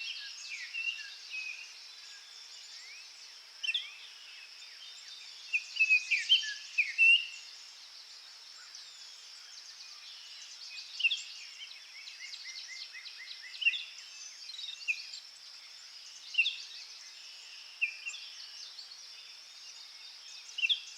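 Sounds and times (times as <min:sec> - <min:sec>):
high-pitched background hiss: 0:00.0 - 0:20.9
songbirds chirping: 0:00.0 - 0:20.9.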